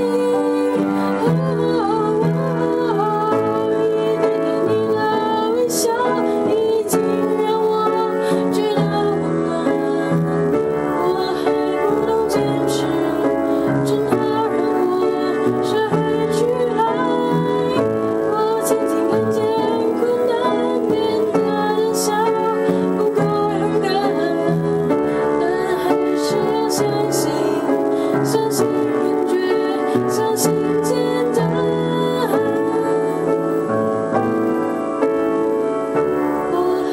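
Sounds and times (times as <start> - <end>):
woman singing: 0.0 - 34.3, 35.6 - 36.9
piano chords: 0.0 - 36.9.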